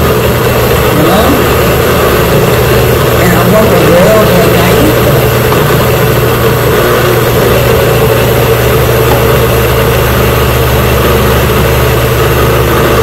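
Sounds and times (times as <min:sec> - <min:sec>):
blender running: 0:00.0 - 0:13.0.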